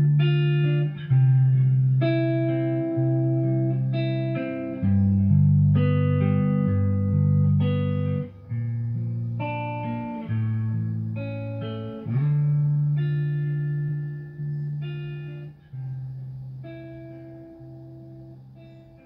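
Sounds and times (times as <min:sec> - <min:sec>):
electric guitar through amplifier: 0:00.0 - 0:19.0.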